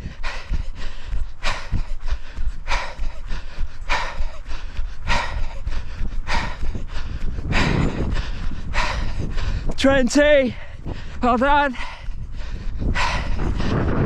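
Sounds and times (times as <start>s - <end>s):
runner breathing heavily: 0.0s - 14.0s.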